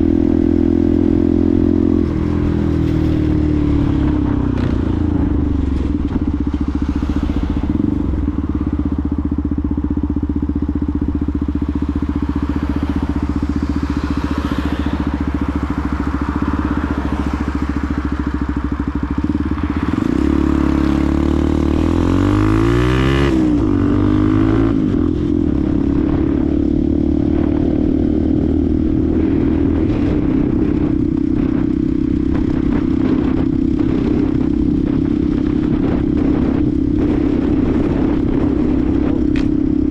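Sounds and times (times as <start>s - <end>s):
motorcycle engine running and revving: 0.0s - 39.9s
steady rushing noise: 0.0s - 39.9s.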